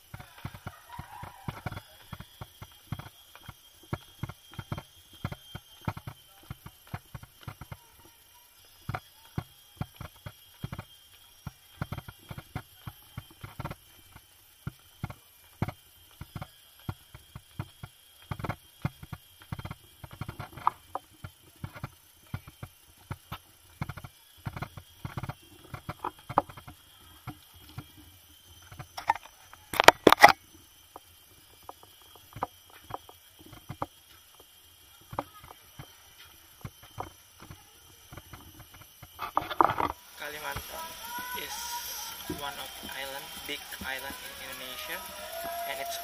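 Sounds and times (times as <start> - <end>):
faint high whine: 0.0 - 46.0.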